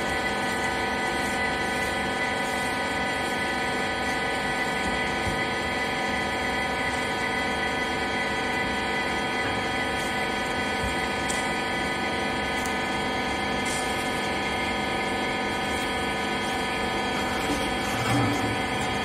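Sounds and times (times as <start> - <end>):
hydraulic power unit hum: 0.0 - 19.0.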